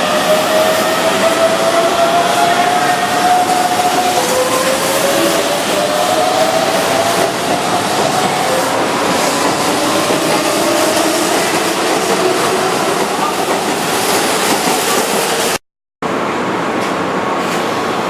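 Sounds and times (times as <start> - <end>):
electric train running: 0.0 - 15.6.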